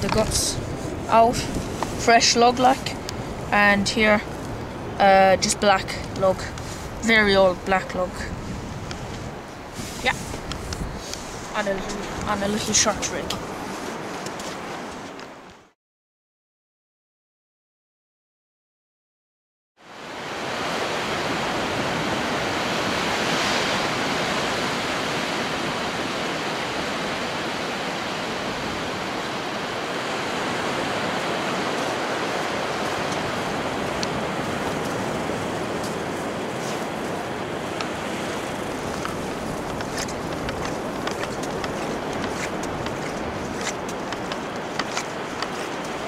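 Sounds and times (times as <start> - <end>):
wind on microphone: 0.0 - 15.6, 20.2 - 46.0
sea surf on beach: 0.0 - 15.8, 19.8 - 46.0.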